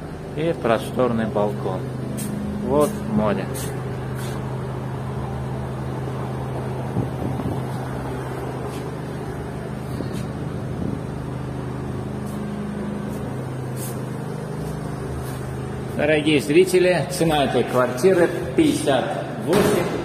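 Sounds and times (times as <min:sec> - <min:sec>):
traffic hum: 0:00.0 - 0:20.0.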